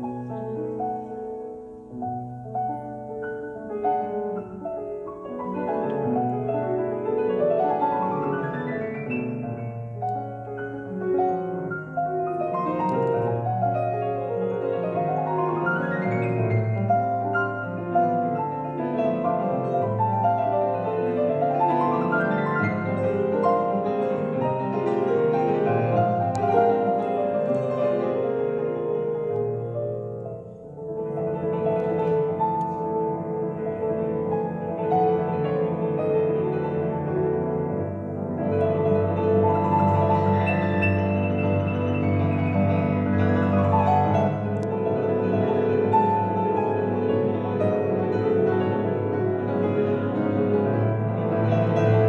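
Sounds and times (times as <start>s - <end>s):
solo grand piano playing: 0.0s - 52.0s.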